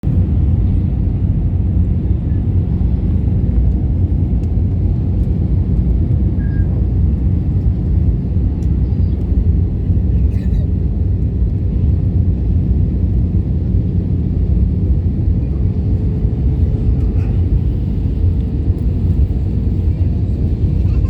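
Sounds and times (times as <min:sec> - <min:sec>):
airliner engine rumble in cabin: 0:00.0 - 0:21.0.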